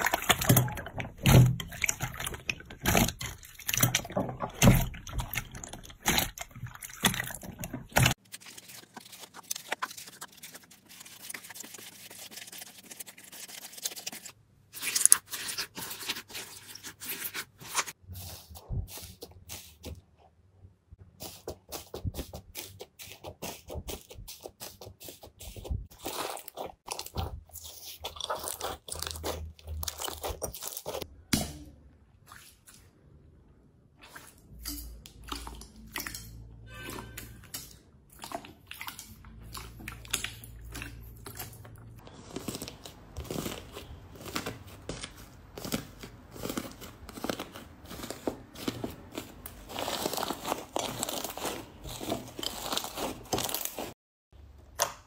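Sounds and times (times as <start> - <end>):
slime crackling and squishing: 0.0 - 20.0, 21.2 - 31.1, 35.2 - 54.0.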